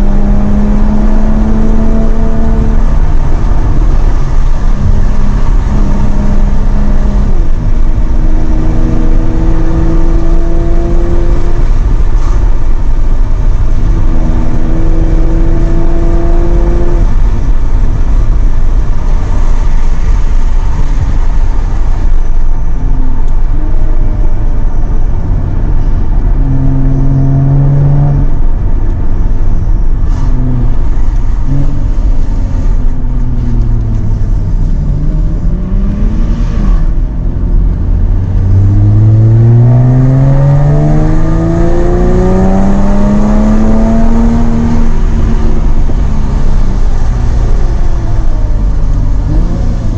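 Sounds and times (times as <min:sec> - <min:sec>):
sports car engine accelerating: 0:00.0 - 0:49.9
wind and road rumble: 0:00.0 - 0:49.9.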